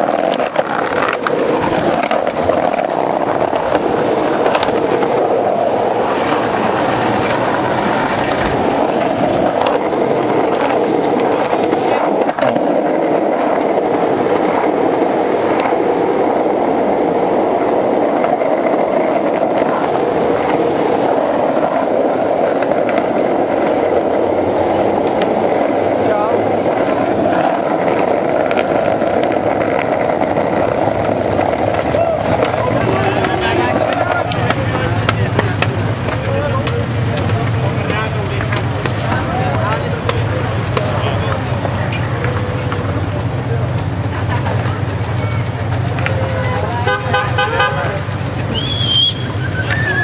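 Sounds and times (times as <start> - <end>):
skateboard clicks over joints: 0.0 - 50.0
skateboard wheels rolling on pavement: 0.0 - 50.0.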